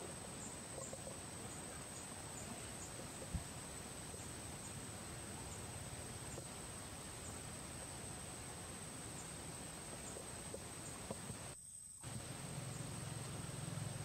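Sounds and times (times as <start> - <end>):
steady high-pitched whine: 0.0 - 14.0.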